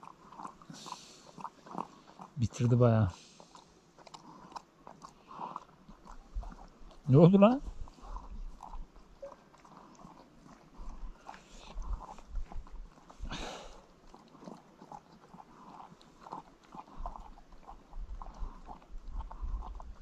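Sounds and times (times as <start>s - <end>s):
dog licking bowl: 0.0s - 20.0s.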